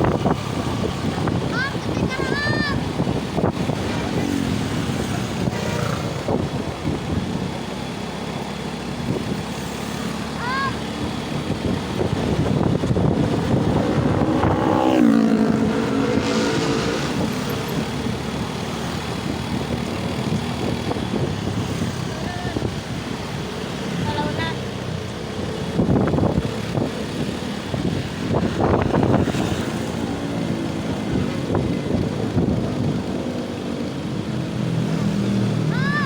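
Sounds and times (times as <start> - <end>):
vehicle passing by: 0.0 - 7.1, 9.1 - 33.2
road traffic: 0.0 - 36.0.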